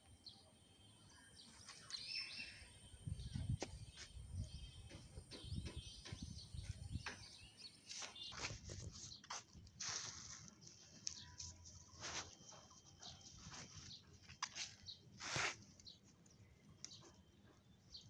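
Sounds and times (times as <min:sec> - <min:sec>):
faint outdoor background noise: 0:00.0 - 0:18.0
bird chirps: 0:00.2 - 0:10.0, 0:10.7 - 0:18.0.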